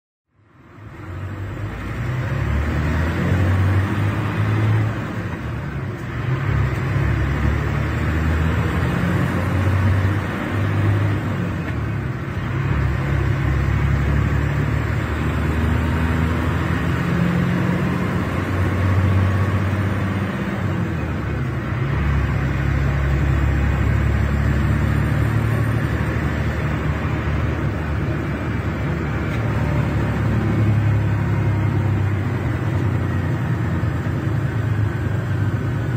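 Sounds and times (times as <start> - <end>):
diesel bus engine droning: 0.3 - 35.9.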